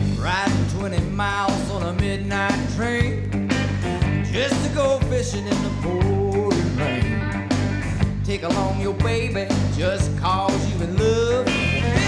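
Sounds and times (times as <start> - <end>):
country music: 0.0 - 12.0.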